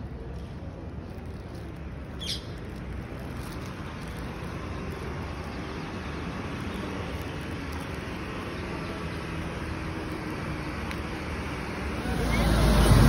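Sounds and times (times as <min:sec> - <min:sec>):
street traffic rumble: 0:00.0 - 0:13.0
vehicle engine humming: 0:00.0 - 0:13.0.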